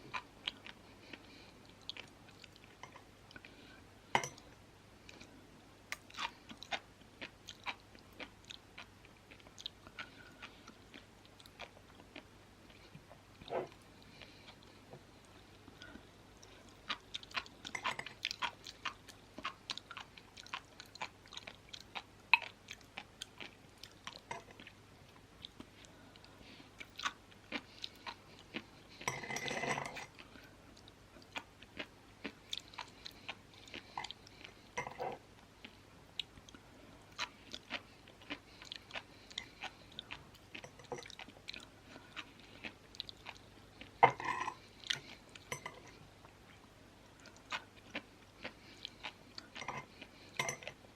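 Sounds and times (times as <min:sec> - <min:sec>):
chewing with crisp pops: 0:00.0 - 0:29.2, 0:30.0 - 0:50.9.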